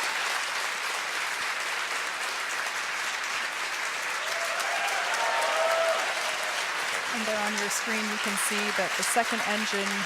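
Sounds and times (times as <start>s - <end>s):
large crowd applauding: 0.0s - 10.0s.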